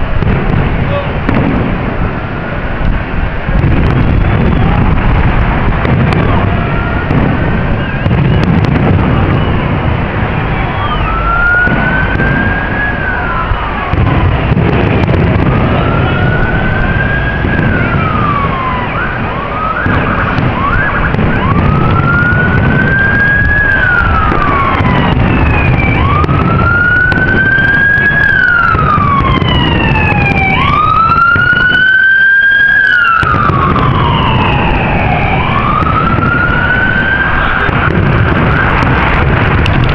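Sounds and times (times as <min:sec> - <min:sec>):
steady low rumble: 0:00.0 - 0:31.8, 0:33.2 - 0:39.9
emergency siren wailing: 0:00.0 - 0:39.9.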